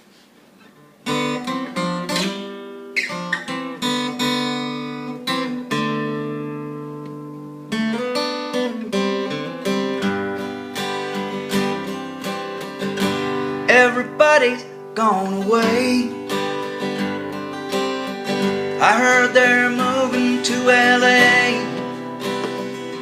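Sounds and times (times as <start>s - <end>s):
acoustic guitar strumming and picking: 0.6s - 23.0s.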